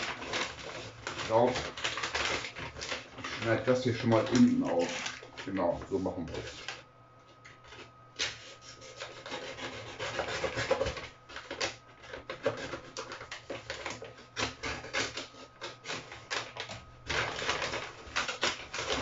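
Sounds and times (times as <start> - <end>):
paper bag crinkling and rustling: 0.0 - 6.8, 10.2 - 19.0.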